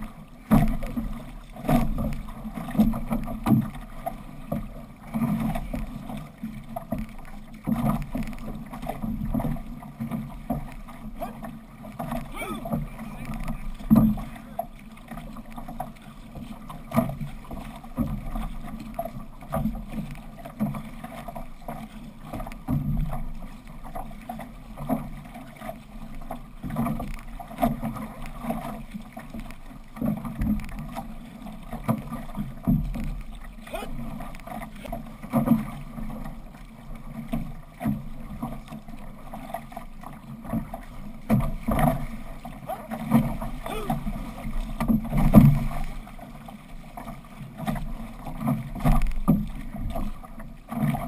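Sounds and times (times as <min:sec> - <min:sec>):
paddles pulling through water: 0:00.0 - 0:51.0
water rushing along hull: 0:00.0 - 0:51.0.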